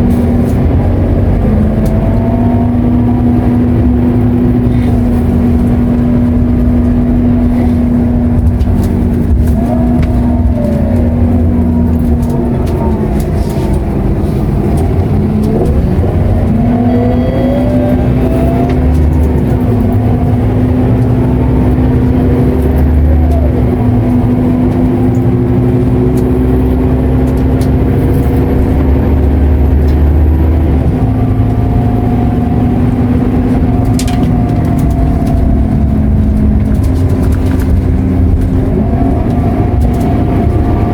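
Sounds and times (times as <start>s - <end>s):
bus diesel engine drone: 0.0s - 40.9s
constant tone: 0.0s - 40.9s.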